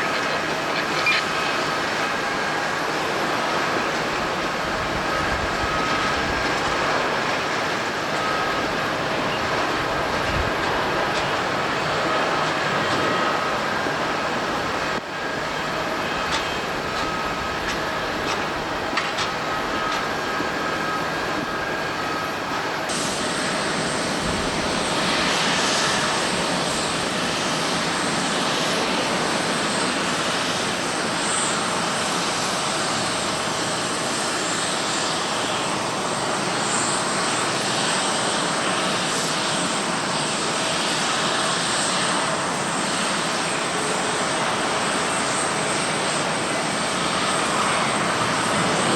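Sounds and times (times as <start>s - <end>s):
jet engines roaring: 0.0s - 48.9s.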